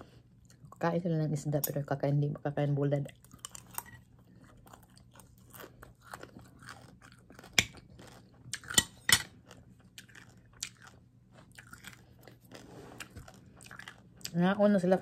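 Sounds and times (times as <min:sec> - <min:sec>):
person chewing food: 0:00.0 - 0:00.8, 0:03.1 - 0:14.4.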